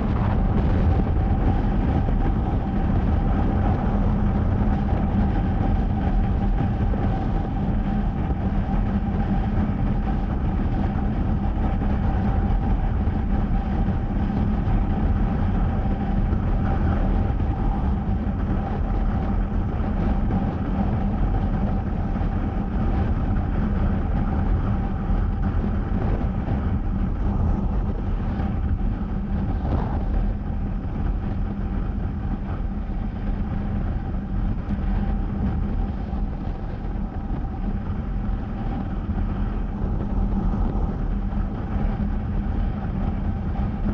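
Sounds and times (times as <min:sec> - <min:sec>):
wind noise: 0:00.0 - 0:43.9.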